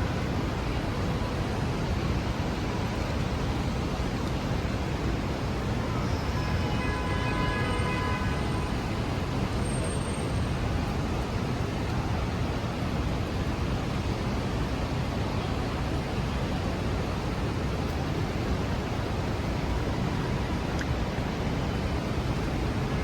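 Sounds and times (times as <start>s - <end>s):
city traffic on rainy street: 0.0s - 23.0s.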